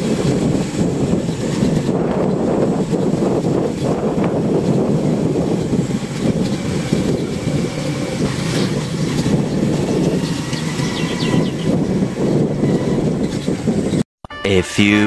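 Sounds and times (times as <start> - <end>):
vehicle and road rumble: 0.0 - 14.0
wind buffeting the microphone: 0.0 - 14.0.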